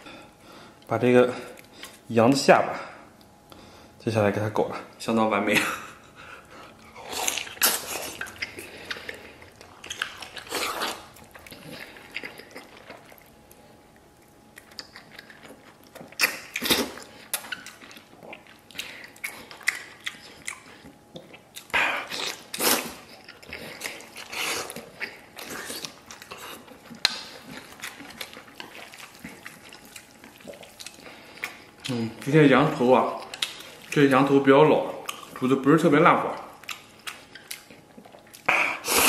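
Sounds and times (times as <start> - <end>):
person chewing and sucking meat: 6.4 - 35.5, 36.2 - 39.0.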